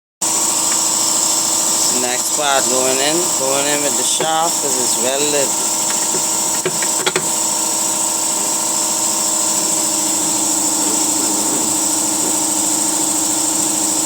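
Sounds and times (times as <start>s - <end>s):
machine hum with hiss: 0.2s - 14.0s.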